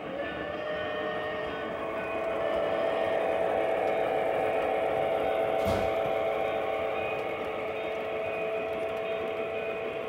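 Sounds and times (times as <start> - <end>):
model train hum and rumble: 0.0 - 10.0.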